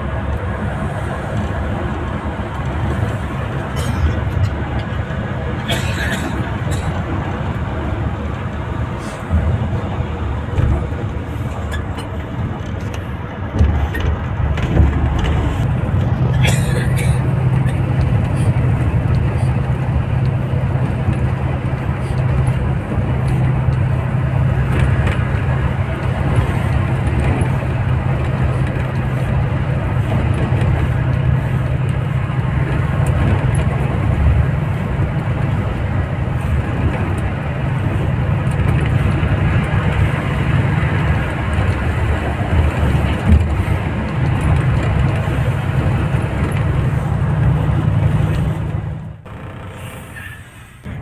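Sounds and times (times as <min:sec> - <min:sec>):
vehicle engine and tyre noise: 0:00.0 - 0:51.0.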